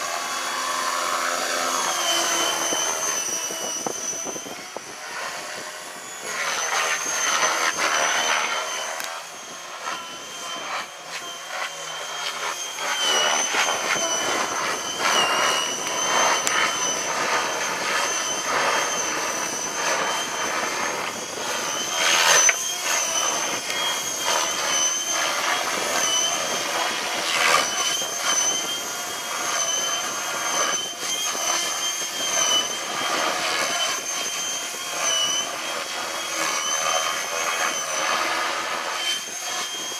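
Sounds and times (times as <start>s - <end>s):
small motor whining: 0.0s - 39.9s
wind on microphone: 0.0s - 39.9s.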